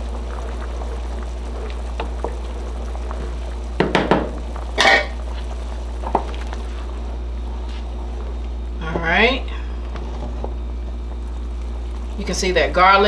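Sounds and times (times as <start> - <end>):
steady low hum: 0.0 - 13.0
wooden spoon stirring pot: 0.0 - 13.0.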